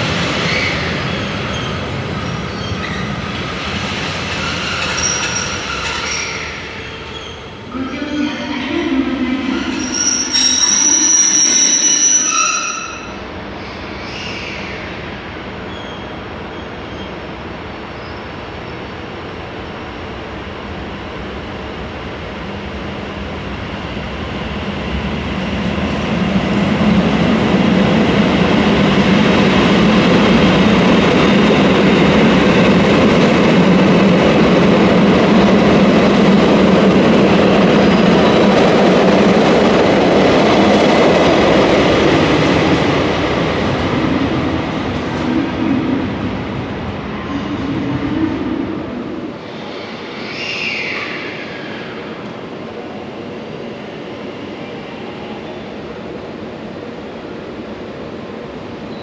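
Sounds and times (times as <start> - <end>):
electric train running on rails: 0.0 - 59.0.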